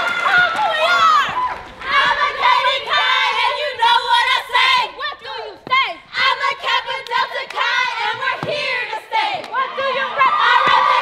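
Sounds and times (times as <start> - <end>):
women chanting and shouting: 0.0 - 11.0.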